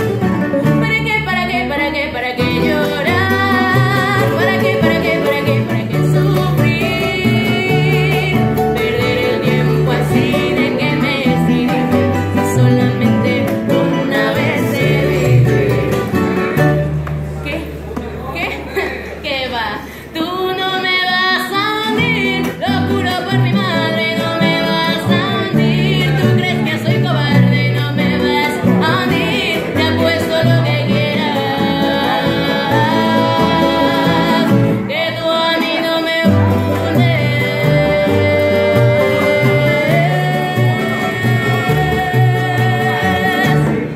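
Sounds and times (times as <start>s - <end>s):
woman singing: 0.0s - 16.8s, 19.3s - 43.9s
guitar accompaniment: 0.0s - 43.9s.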